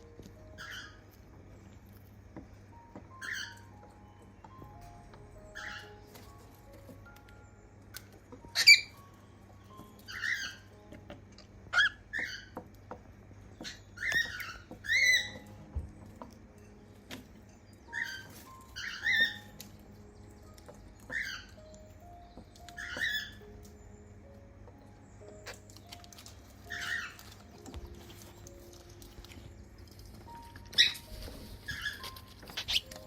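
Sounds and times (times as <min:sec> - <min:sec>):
cockatiels chirping: 0:00.0 - 0:33.0.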